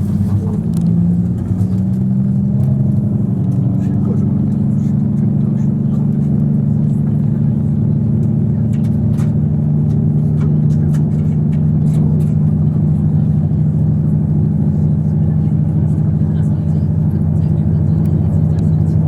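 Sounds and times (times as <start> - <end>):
diesel railcar engine droning: 0.0 - 19.0.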